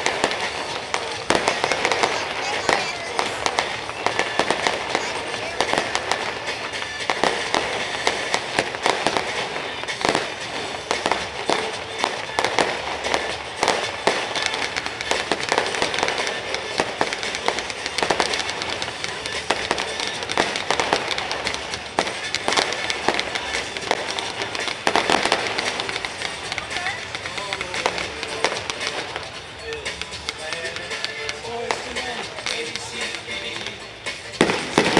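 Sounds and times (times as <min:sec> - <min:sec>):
fireworks bangs: 0:00.0 - 0:34.9
fireworks crackle and rumble: 0:00.0 - 0:34.9.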